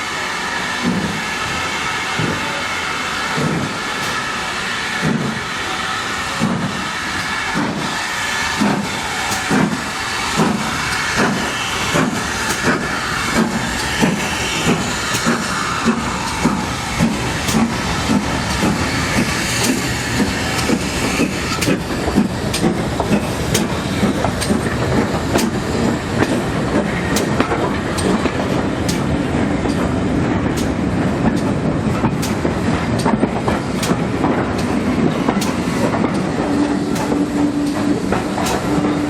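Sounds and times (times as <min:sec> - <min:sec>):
hiss of steam: 0:00.0 - 0:39.0
steam locomotive exhaust beats: 0:00.0 - 0:39.0
train running noise: 0:00.0 - 0:39.0.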